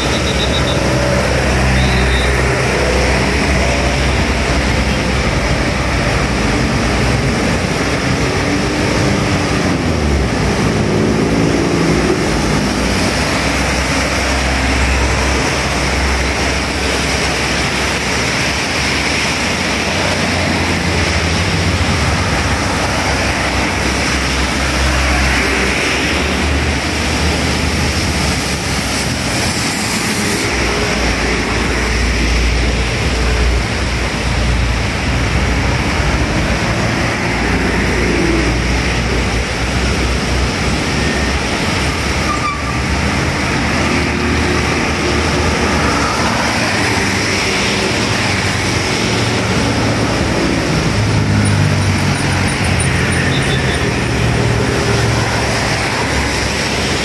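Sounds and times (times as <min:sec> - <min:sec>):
passing vehicle engines: 0:00.0 - 0:57.0
tyres hissing through water: 0:00.0 - 0:57.0.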